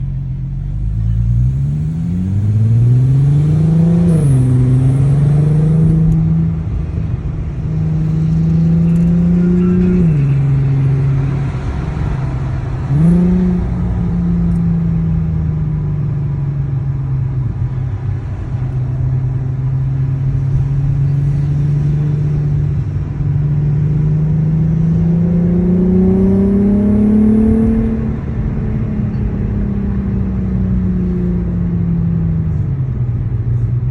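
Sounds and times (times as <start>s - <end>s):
car engine revving through gears: 1.0s - 31.2s.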